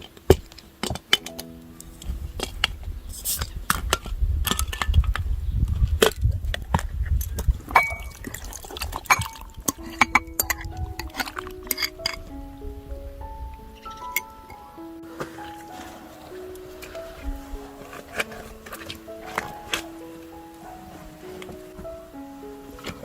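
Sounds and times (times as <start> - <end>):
soft background music: 0.0 - 6.8, 7.4 - 23.0.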